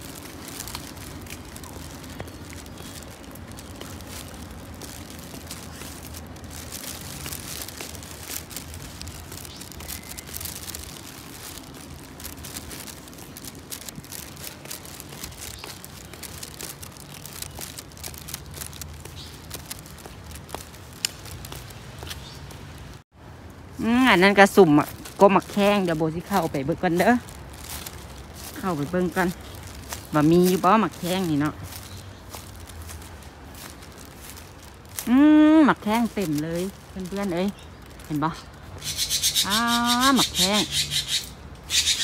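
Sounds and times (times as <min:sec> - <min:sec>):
footsteps through dry brush: 0:00.0 - 0:23.0, 0:23.8 - 0:42.0
twigs snapping: 0:00.0 - 0:23.0, 0:24.6 - 0:41.2.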